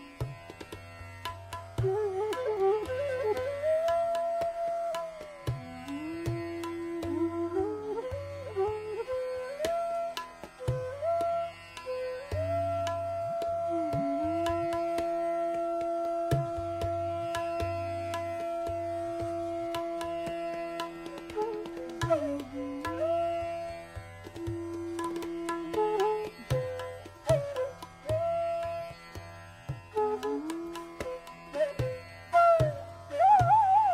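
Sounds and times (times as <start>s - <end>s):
tabla strokes: 0.0s - 33.9s
bamboo flute long held notes: 1.8s - 29.2s, 29.8s - 33.9s.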